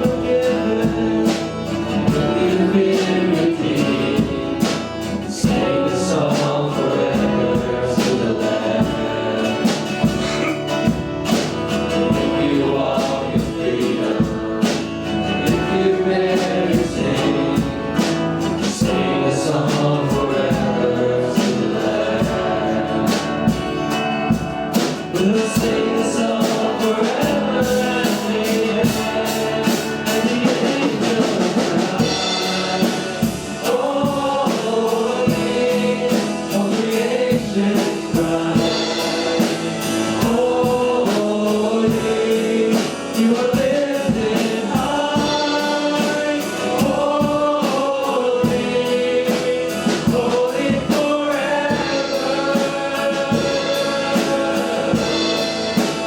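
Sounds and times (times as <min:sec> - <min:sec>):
band and congregation singing: 0:00.0 - 0:56.0
steady drum beat: 0:00.0 - 0:56.0.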